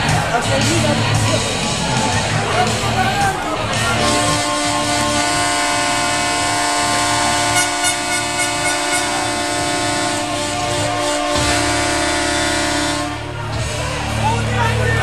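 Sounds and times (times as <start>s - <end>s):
steady horn blast: 2.4s - 14.9s.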